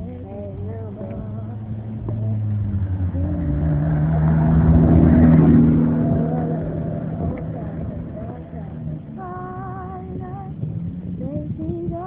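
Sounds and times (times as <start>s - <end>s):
motor vehicle passing: 0.0s - 12.0s.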